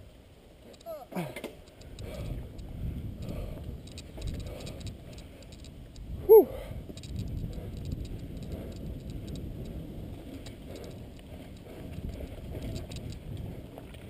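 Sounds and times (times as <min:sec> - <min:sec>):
bike ticks and rattles: 0:00.0 - 0:14.0
tyres and wind rumbling: 0:00.0 - 0:14.0.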